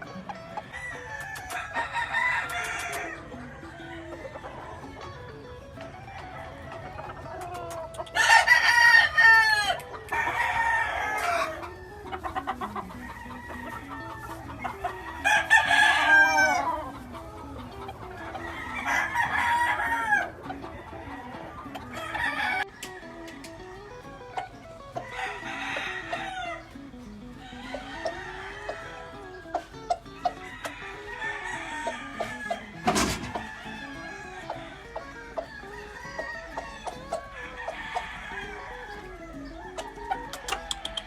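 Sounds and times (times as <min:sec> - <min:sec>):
roosters crowing: 0:00.0 - 0:41.0.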